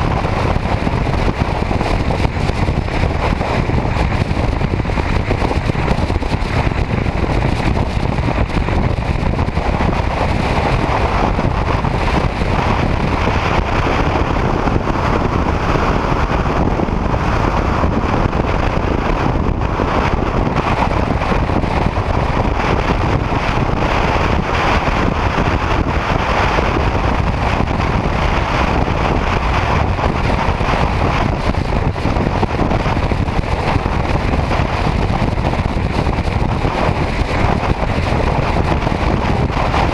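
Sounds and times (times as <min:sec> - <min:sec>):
road noise: 0:00.0 - 0:39.9
wind rushing on microphone: 0:00.0 - 0:39.9.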